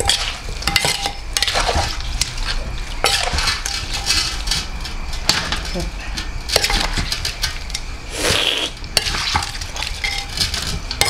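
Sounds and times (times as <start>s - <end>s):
utensils scraping a pan: 0.0s - 11.0s.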